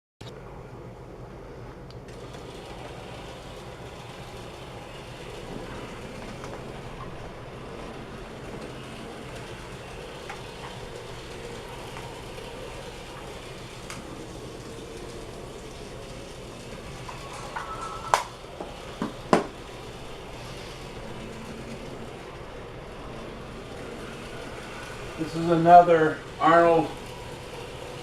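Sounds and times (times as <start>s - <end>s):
steady low hum: 0.2s - 28.0s
model train motor whirring: 2.1s - 28.0s
wheels rolling rattle: 2.1s - 28.0s.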